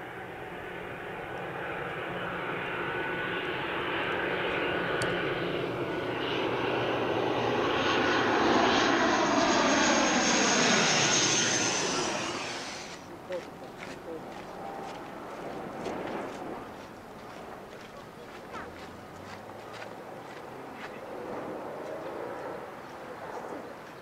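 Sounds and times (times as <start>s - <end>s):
turboprop airliner passing overhead: 0.0s - 24.0s.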